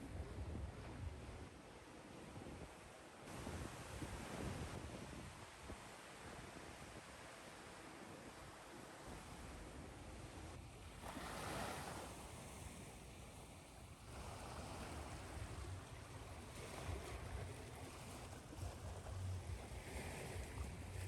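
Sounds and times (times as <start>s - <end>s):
ocean waves washing ashore: 3.3s - 21.0s.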